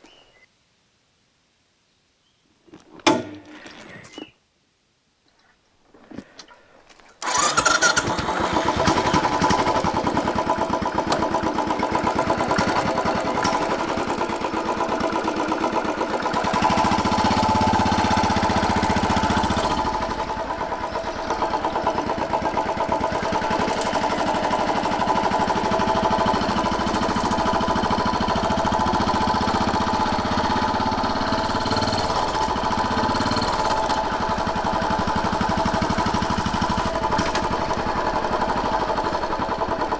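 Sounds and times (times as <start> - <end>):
motorcycle engine starting and running: 7.2 - 39.9.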